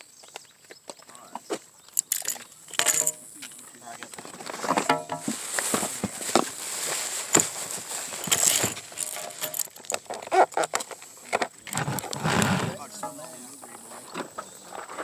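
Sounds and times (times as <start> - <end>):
scraping and rustling: 2.0 - 15.0.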